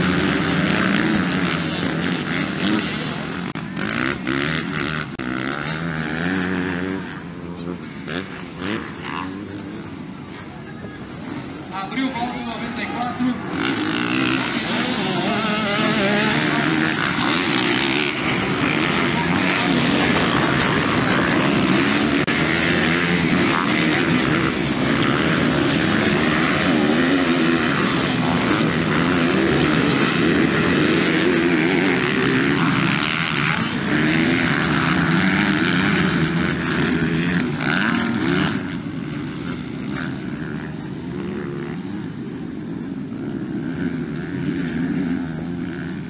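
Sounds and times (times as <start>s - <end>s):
motocross bike engines revving: 0.0s - 46.0s.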